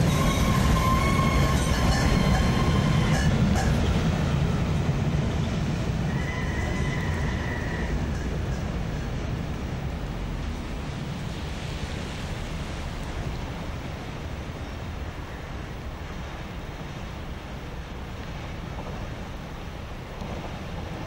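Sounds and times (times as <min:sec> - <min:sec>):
train rumble and hiss: 0:00.0 - 0:21.0.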